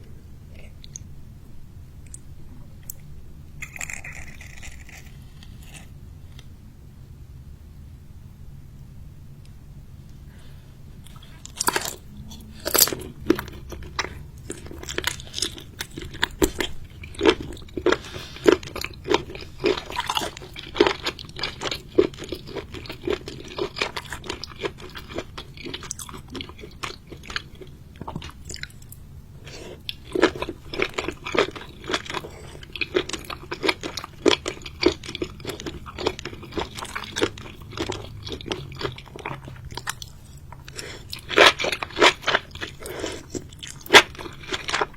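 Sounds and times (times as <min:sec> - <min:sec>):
person chewing and crunching: 0:03.6 - 0:06.0, 0:11.0 - 0:44.9.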